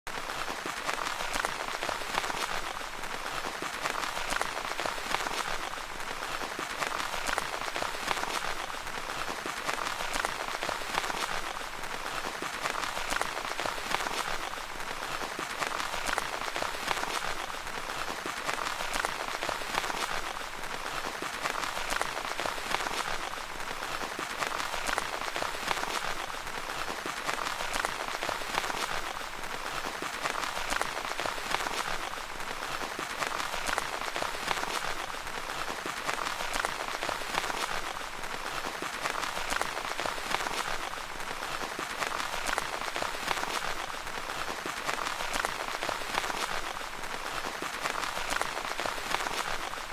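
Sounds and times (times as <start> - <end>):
rain pattering on a tent: 0.1 - 49.9.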